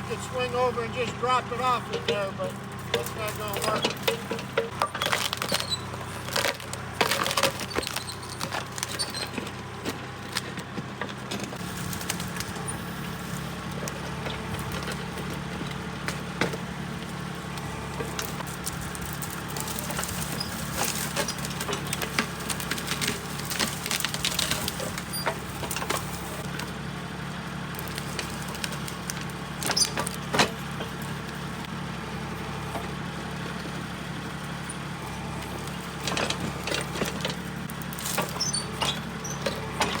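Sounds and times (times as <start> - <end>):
backhoe bucket scraping frozen ground: 0.0 - 40.0
diesel tractor engine running: 0.0 - 40.0.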